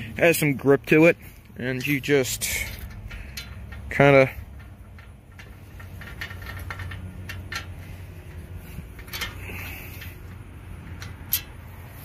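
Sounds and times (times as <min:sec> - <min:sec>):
steady low rumble: 0:00.0 - 0:12.0
light metallic clicks and scrapes: 0:00.2 - 0:12.0.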